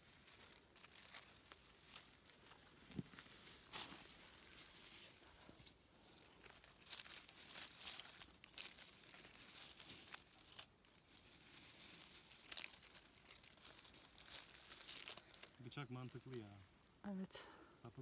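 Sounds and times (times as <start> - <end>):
dry leaves crinkling under a hand: 0.0 - 17.0.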